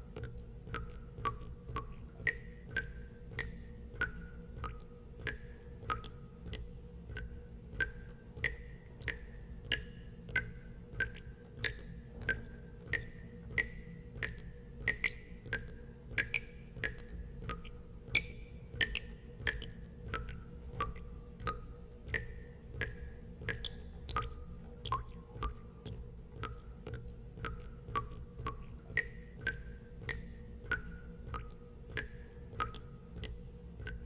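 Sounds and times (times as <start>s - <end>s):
steady low hum: 0.0s - 34.0s
water drops plinking: 0.2s - 34.0s.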